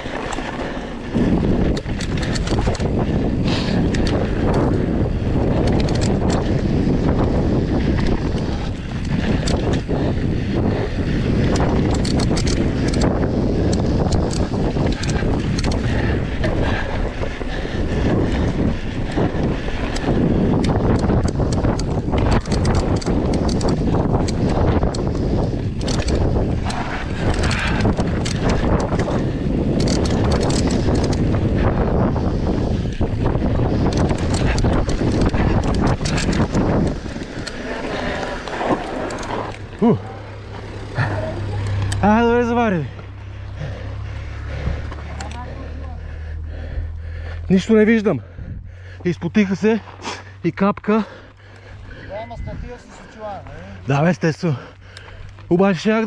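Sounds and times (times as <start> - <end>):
bike rattles and clicks: 0.0 - 56.0
tyres rumbling on dirt trail: 0.0 - 56.0
wind buffeting microphone: 0.0 - 56.0.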